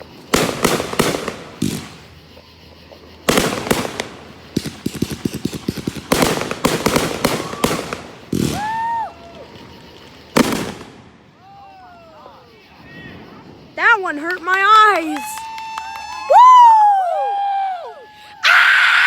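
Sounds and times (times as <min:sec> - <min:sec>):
fireworks crackling pops: 0:00.0 - 0:11.6, 0:12.6 - 0:17.1
fireworks bangs: 0:00.0 - 0:17.0.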